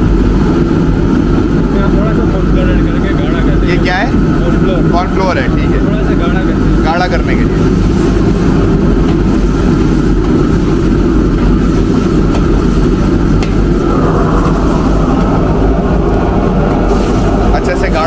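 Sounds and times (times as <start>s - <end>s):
gas burner rushing: 0.0s - 18.0s.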